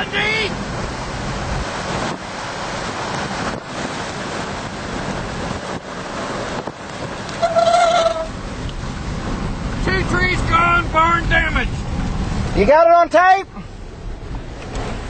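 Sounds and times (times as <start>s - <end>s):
strong gusting wind on microphone: 0.0s - 12.7s.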